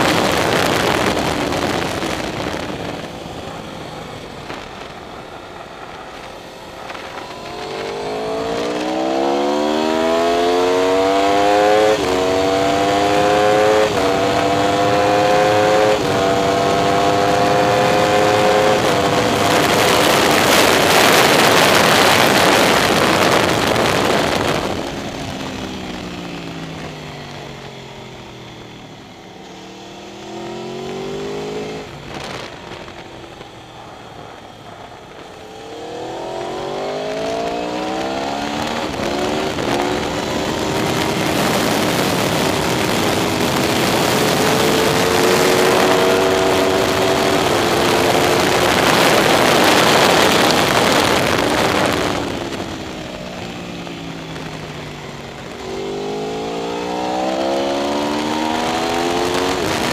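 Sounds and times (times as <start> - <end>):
motorcycle engine revving: 0.0 - 59.9
wind roar on microphone: 0.0 - 59.9.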